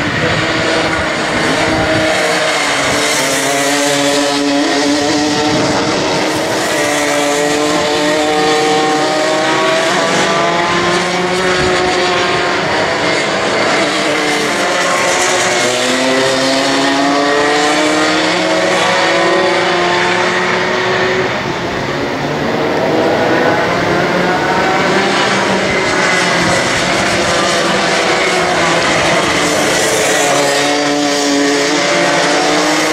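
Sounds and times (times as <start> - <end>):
racing kart engines: 0.0 - 32.9.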